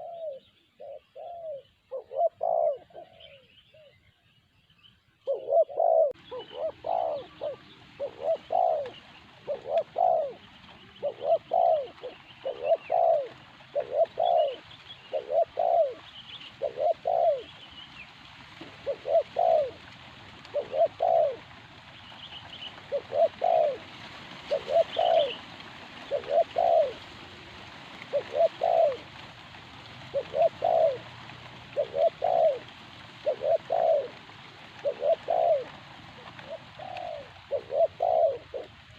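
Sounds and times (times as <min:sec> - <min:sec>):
dove cooing: 0:00.0 - 0:04.1, 0:05.2 - 0:38.9.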